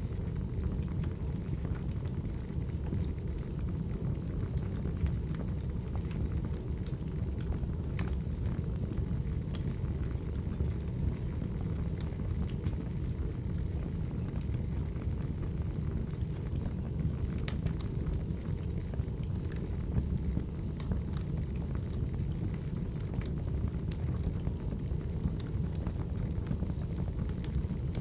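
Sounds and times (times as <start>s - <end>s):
burning logs crackling and popping: 0.0s - 28.0s
low rumble of flames: 0.0s - 28.0s.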